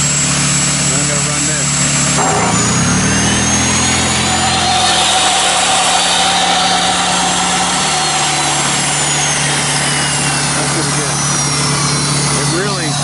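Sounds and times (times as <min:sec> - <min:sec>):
angle grinder running: 0:00.0 - 0:13.0
generator engine revving: 0:00.0 - 0:13.0
chop saw spinning up: 0:02.0 - 0:13.0.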